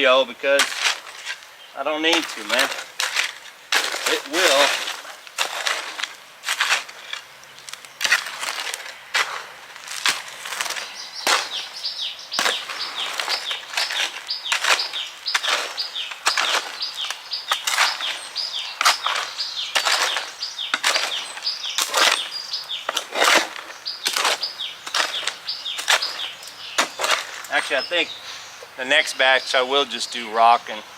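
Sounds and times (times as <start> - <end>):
hand tool scraping cement mix: 0.5 - 7.2, 8.0 - 11.6, 12.4 - 28.0.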